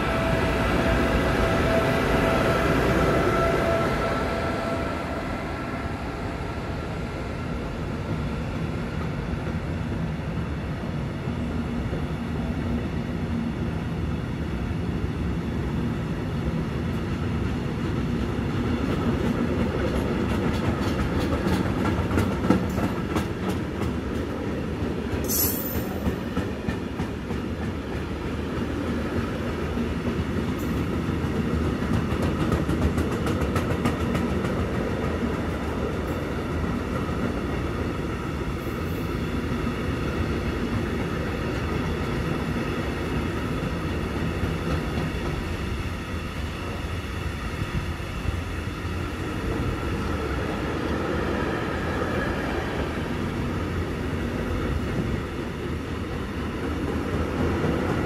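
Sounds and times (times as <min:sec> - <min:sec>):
electric locomotive whine: 0:00.0 - 0:58.0
train wheels rumbling on rails: 0:00.0 - 0:58.0.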